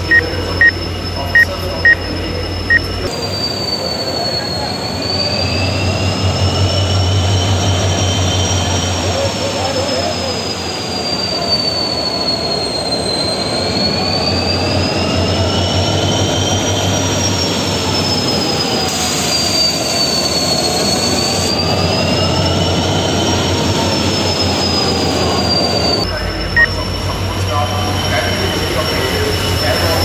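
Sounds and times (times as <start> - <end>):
diesel locomotive running: 0.0 - 30.0
high wavering squeal: 0.0 - 30.0.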